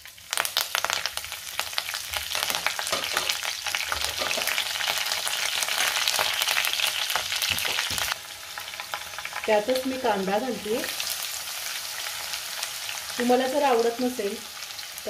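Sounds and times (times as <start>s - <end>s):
spices sizzling and crackling in oil: 0.0s - 15.0s.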